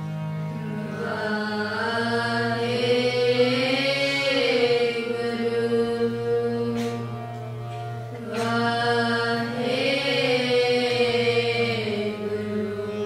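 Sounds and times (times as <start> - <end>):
harmonium accompaniment: 0.0 - 13.0
children singing in unison: 0.6 - 7.5, 8.1 - 13.0.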